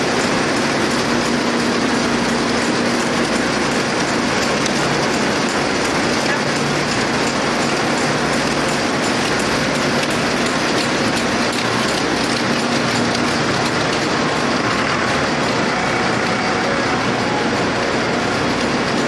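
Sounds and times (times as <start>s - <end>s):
yarn-winding machines clattering: 0.0s - 19.0s.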